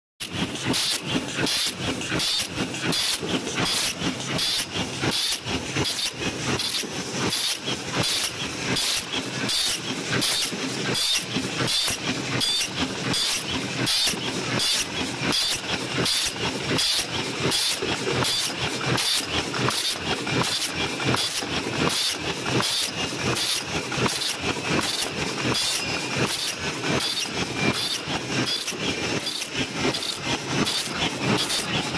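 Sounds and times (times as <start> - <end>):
machine clattering rhythmically: 0.2 - 31.9.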